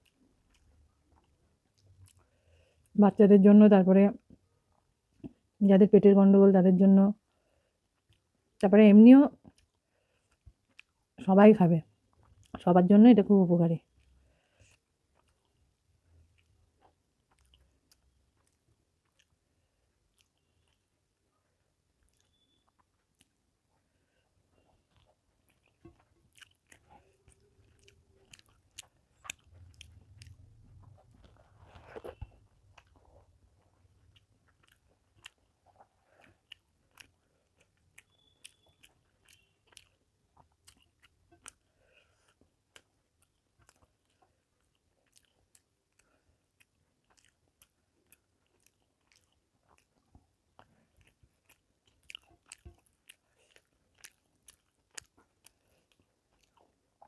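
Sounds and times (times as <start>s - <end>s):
person chewing food: 0.0s - 3.0s, 4.2s - 5.6s, 7.2s - 8.6s, 9.4s - 11.2s, 11.9s - 12.6s, 13.8s - 57.0s.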